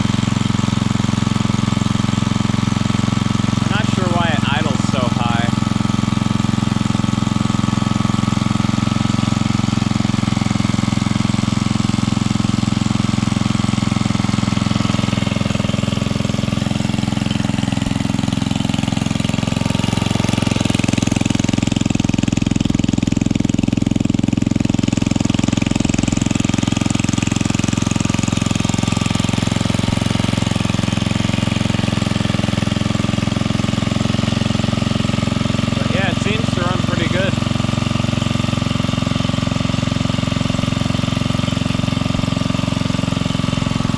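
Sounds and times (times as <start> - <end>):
single-cylinder engine running steadily: 0.0 - 43.9.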